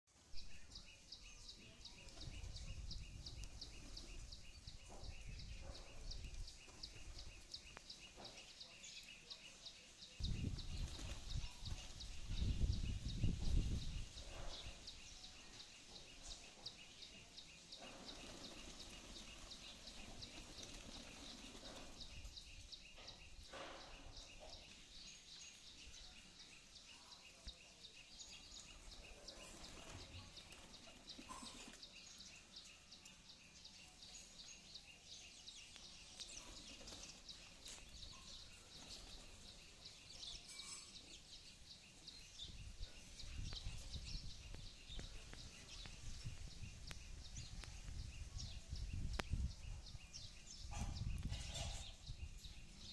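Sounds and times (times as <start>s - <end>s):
outdoor ambience: 0.1s - 52.9s.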